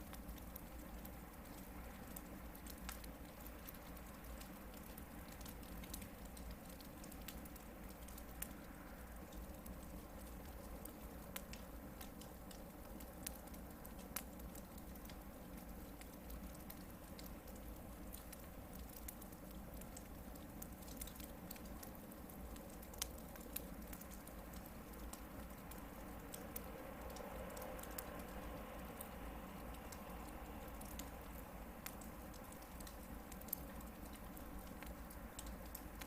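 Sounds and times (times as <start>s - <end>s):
fire crackling and snapping: 0.0s - 36.0s
soft flame noise: 0.0s - 36.0s.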